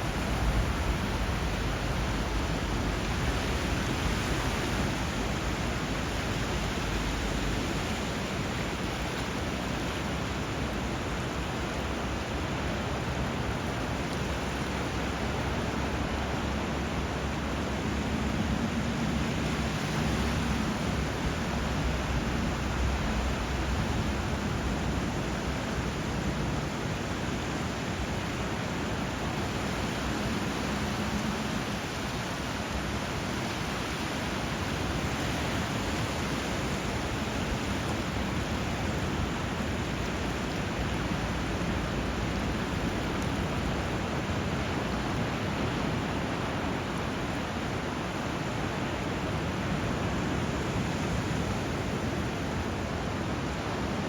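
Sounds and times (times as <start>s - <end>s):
flowing water and surf: 0.0s - 54.0s.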